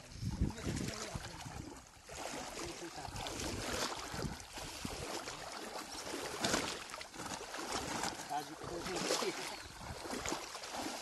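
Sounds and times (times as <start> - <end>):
legs wading through water: 0.0 - 11.0.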